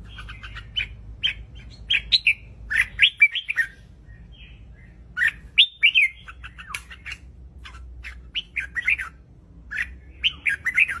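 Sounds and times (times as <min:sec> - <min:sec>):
bird singing chirpy whistles: 0:00.1 - 0:07.3, 0:08.0 - 0:11.0.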